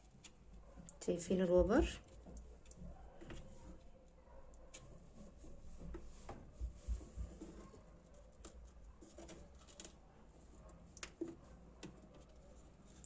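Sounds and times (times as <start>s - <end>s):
clicks and light taps of handling: 1.7s - 13.0s.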